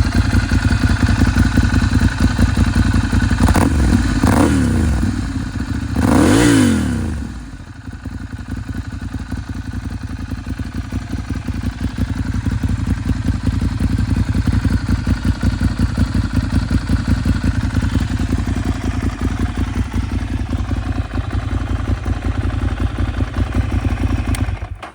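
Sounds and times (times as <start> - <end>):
motorcycle engine revving and idling: 0.0 - 24.9.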